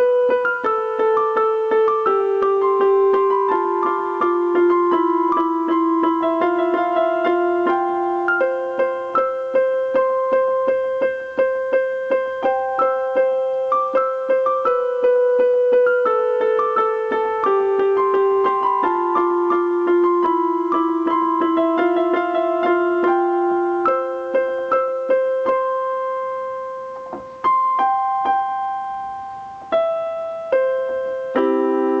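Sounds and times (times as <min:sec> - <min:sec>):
piano playing slow melody: 0:00.0 - 0:32.0.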